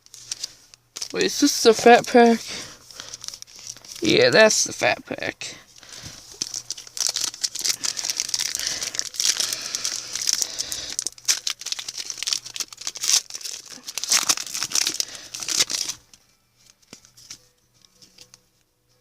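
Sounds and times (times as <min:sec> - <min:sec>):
plastic wrapper tearing and crinkling: 0:00.0 - 0:04.9, 0:05.8 - 0:18.4.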